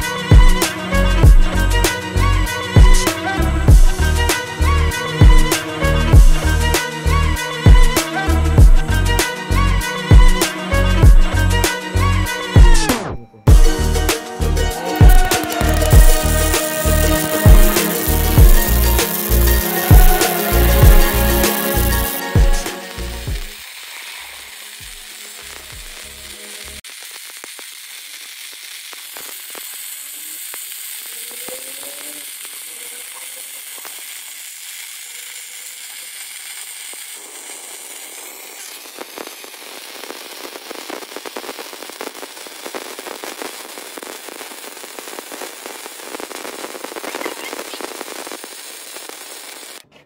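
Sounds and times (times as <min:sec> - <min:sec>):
welding arc crackling: 0:00.0 - 0:49.9.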